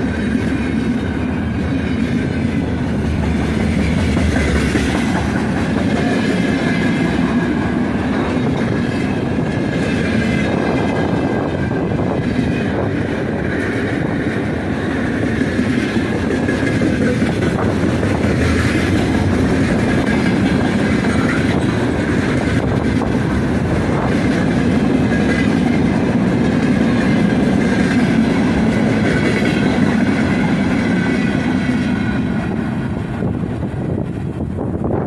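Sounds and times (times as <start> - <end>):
freight train wheels clattering: 0.0 - 35.0.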